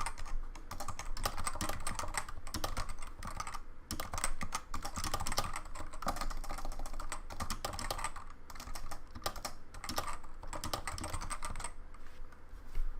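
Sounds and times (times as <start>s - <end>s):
keyboard typing: 0.0s - 11.8s.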